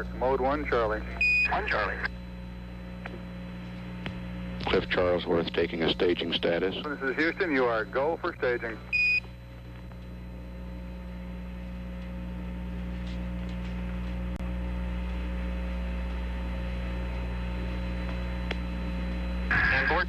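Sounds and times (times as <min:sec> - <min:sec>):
electrical mains hum with hiss: 0:00.0 - 0:20.0.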